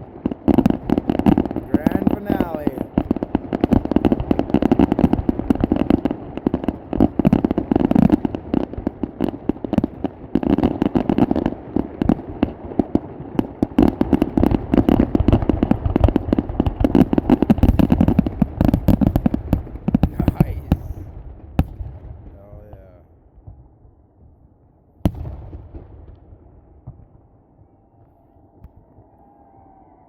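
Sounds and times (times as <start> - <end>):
fireworks bangs and crackling: 0.0 - 29.1.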